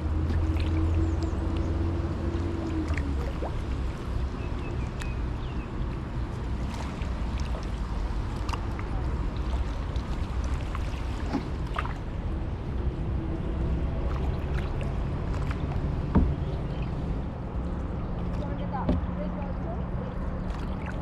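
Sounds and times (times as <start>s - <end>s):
paddle splashing water: 0.0s - 12.8s, 13.7s - 21.0s
steady low rumble: 0.0s - 21.0s.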